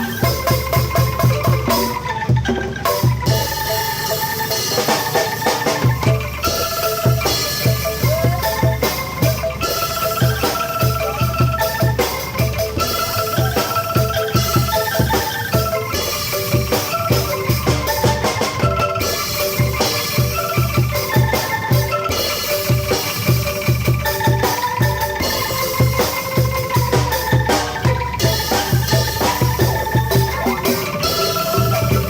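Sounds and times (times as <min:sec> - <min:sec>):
angklung ensemble ringing notes: 0:00.0 - 0:32.0
steady drum beat: 0:00.0 - 0:32.0.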